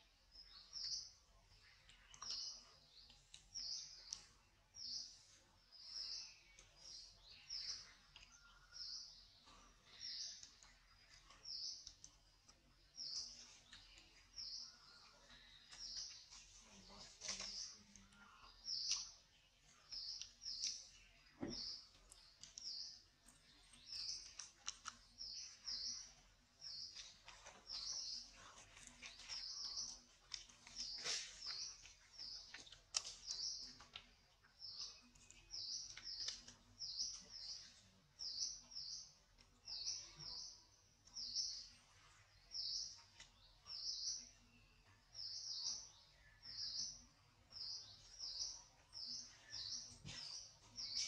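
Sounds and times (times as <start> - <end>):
bird chirping: 0.0 - 51.0.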